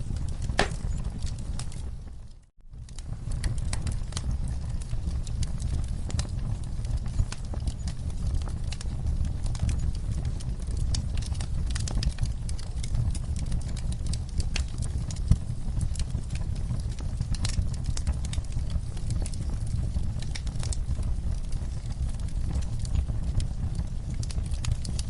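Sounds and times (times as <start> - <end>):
fire crackling in fireplace: 0.0 - 25.0.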